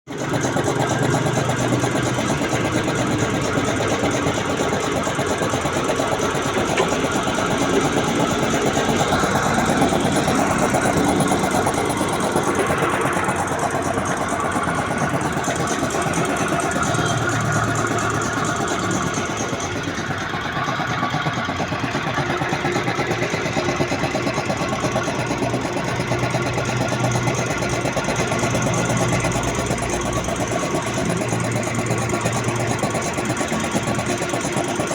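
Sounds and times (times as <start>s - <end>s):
piston air compressor running: 0.1s - 34.9s.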